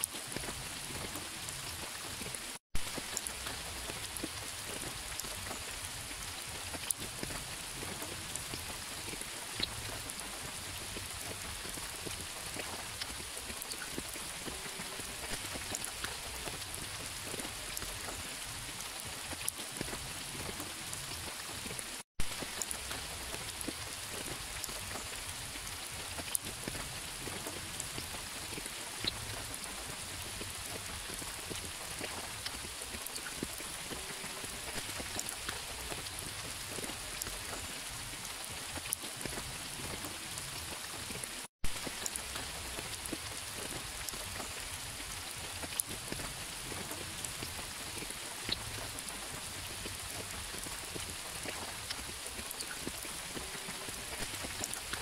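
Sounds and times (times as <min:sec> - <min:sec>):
raindrops ticking: 0:00.0 - 0:55.0
steady rain falling: 0:00.0 - 0:55.0.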